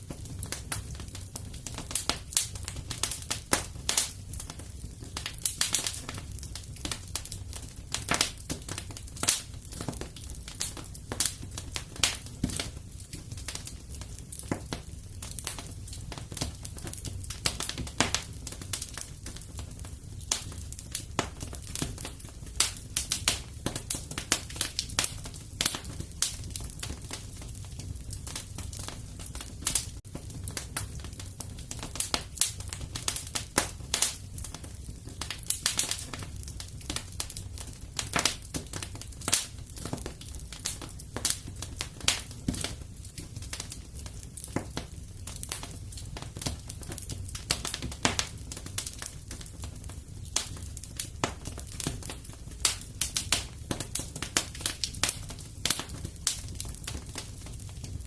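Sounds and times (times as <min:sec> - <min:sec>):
flames rumbling: 0:00.0 - 0:58.0
wood fire snaps and pops: 0:00.0 - 0:58.0.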